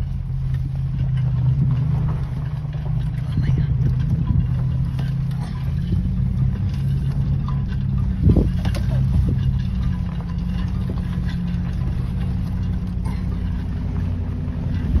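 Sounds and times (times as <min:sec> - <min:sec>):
vehicle engine and tyre drone: 0:00.0 - 0:15.0.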